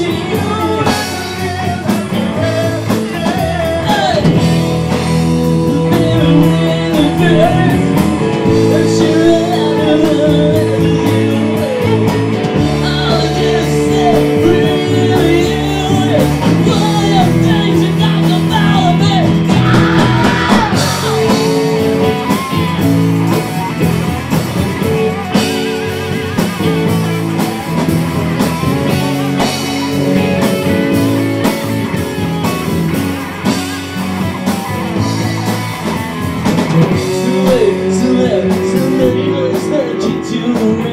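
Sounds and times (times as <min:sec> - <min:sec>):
person singing: 0:00.0 - 0:27.2, 0:34.0 - 0:40.9
electric guitar: 0:00.0 - 0:40.9
rock band playing live: 0:00.0 - 0:40.9.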